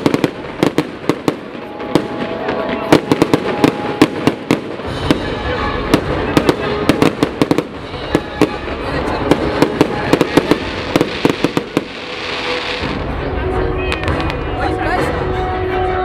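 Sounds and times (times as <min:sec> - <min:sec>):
fireworks bursting: 0:00.0 - 0:14.6
fireworks crackling: 0:00.0 - 0:15.2.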